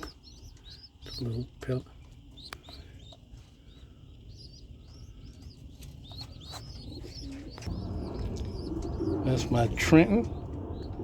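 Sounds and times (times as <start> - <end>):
young pigeons cheeping: 0.0 - 11.0.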